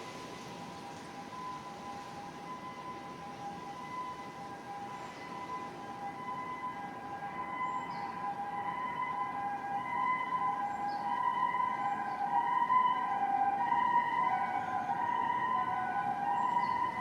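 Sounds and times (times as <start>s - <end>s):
two-tone emergency siren: 0.0s - 17.0s.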